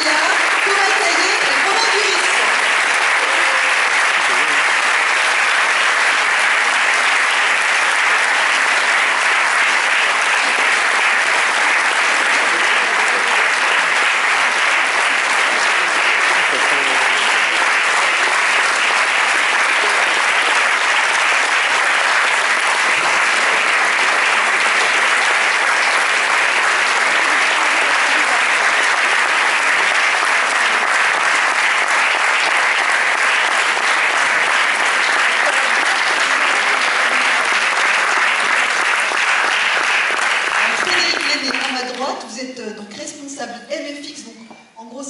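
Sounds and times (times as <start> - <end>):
audience applauding: 0.0 - 42.2.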